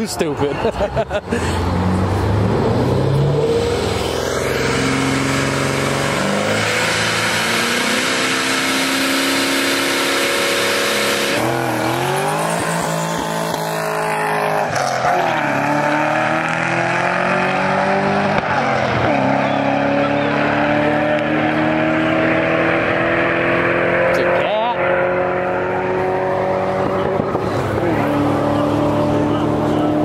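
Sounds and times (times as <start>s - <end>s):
high-revving car engines: 0.0s - 30.0s.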